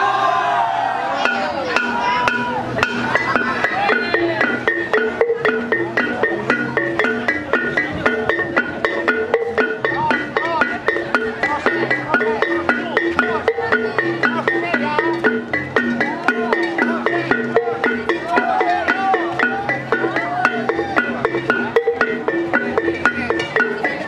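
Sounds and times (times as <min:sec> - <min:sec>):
gamelan music: 0:00.0 - 0:24.0.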